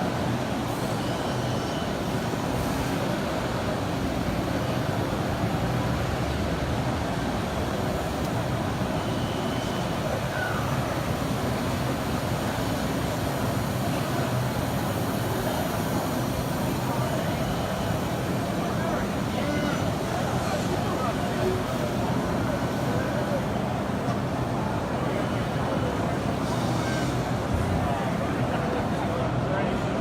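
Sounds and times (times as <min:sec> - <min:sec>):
exhibition hall background noise: 0:00.0 - 0:30.0.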